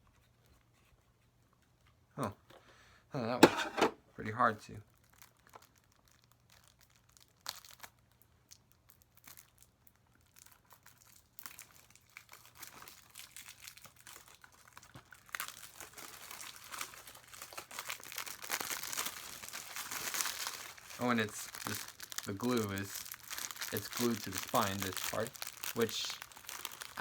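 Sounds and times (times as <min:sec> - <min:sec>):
plastic wrapping crinkling: 0:04.9 - 0:27.0.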